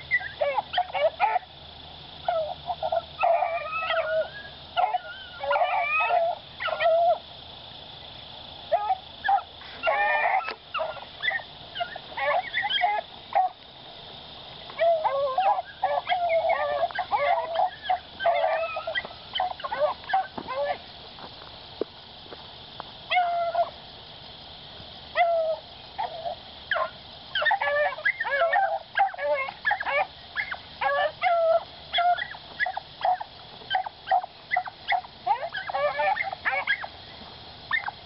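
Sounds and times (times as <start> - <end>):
hounds baying: 0.0 - 7.8, 8.4 - 14.0, 14.6 - 20.9, 23.1 - 23.8, 25.1 - 37.0, 37.6 - 38.0.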